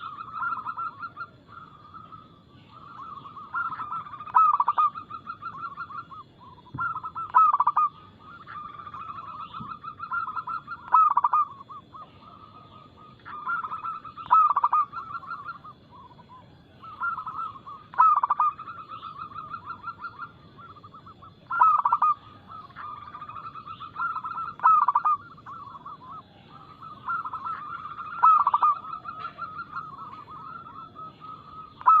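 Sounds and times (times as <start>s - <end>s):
dove cooing song: 0.0s - 32.0s.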